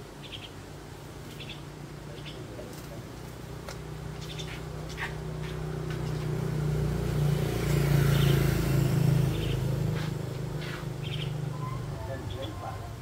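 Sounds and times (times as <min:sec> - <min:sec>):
birds chirping: 0:00.0 - 0:13.0
vehicle passing by: 0:01.9 - 0:13.0.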